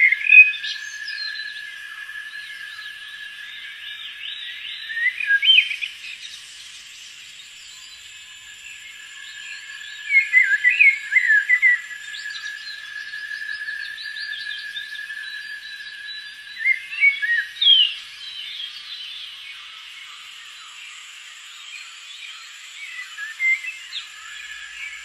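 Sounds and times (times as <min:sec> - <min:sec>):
forest birds chirping and singing: 0:00.0 - 0:25.0
high-pitched insect drone: 0:00.0 - 0:25.0.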